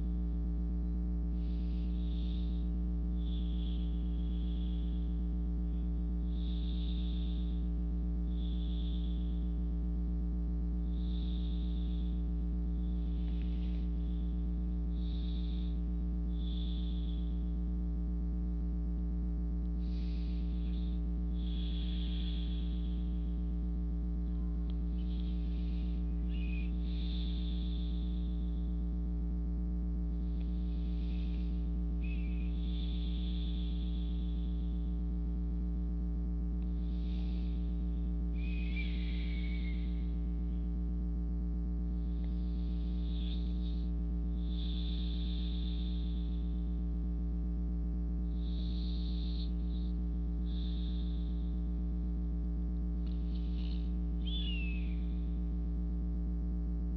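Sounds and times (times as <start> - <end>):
low electrical hum: 0.0 - 56.9
soft slow breathing: 0.9 - 55.7.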